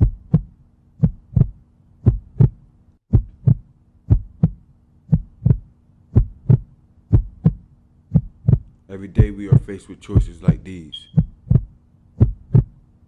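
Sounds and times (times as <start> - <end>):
heartbeat thumps: 0.0 - 12.8
faint steady hum: 0.0 - 13.0.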